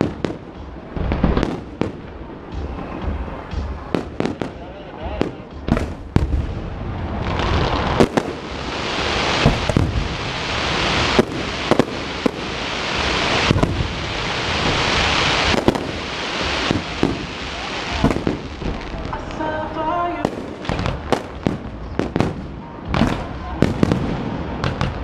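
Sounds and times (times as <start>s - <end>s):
fireworks bangs: 0.0s - 25.0s
fireworks crackling hiss: 0.0s - 25.0s.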